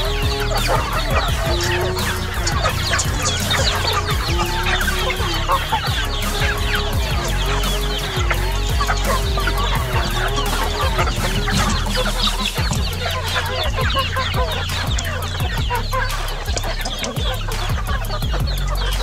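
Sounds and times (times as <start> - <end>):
chickens clucking: 0.0 - 19.0
chicks peeping: 0.0 - 19.0
steady low hum: 0.0 - 19.0.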